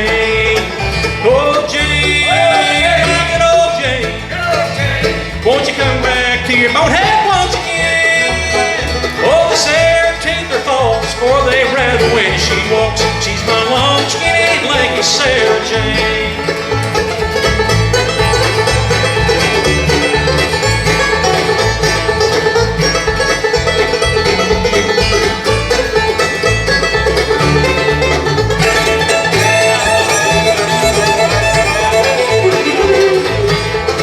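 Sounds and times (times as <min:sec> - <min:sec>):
bluegrass band playing: 0:00.0 - 0:34.0.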